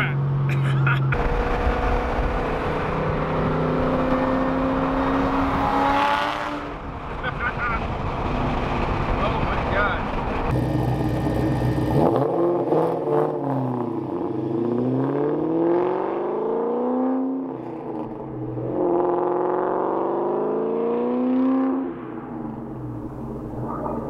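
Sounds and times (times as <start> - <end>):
car engine accelerating past: 1.2 - 7.0, 7.8 - 24.0.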